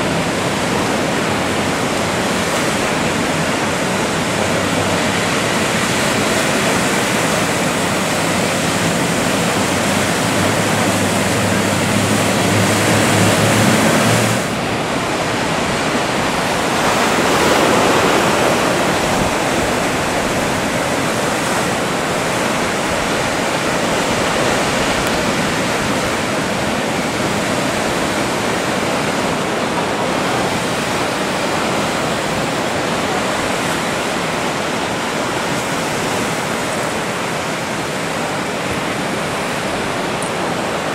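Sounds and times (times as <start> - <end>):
motorboat engine droning: 0.0 - 40.9
ocean surf breaking: 0.0 - 40.9.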